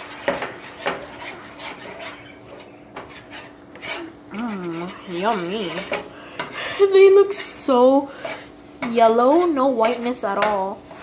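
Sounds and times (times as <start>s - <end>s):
utensil scraping a frying pan: 0.0s - 11.0s.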